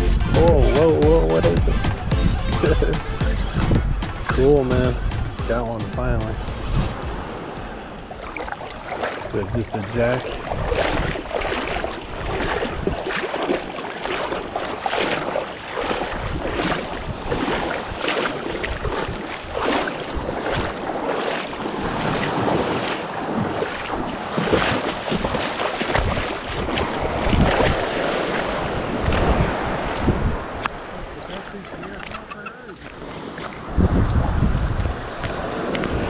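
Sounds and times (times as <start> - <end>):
wind buffeting microphone: 0.2 - 32.3, 33.4 - 36.0
surf sloshing and splashing: 0.3 - 36.0.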